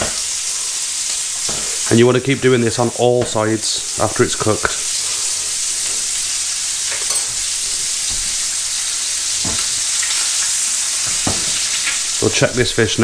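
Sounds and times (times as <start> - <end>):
fish sizzling in butter: 0.0 - 13.0.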